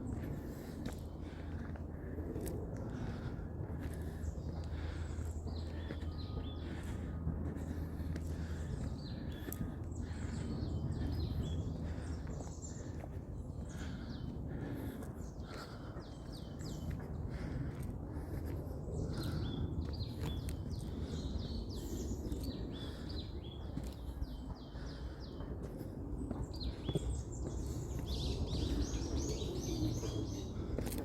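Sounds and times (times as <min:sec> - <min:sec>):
low background rumble: 0:00.0 - 0:31.0
small birds chirping: 0:00.0 - 0:31.0.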